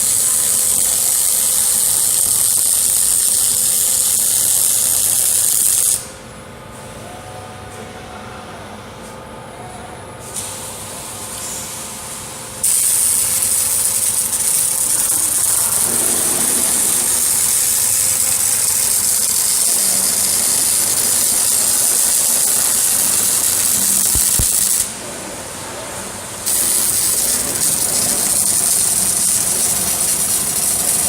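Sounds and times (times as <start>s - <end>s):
welding arc hissing: 0.0s - 6.2s, 10.3s - 25.0s, 26.3s - 31.0s
low machine hum: 6.0s - 31.0s.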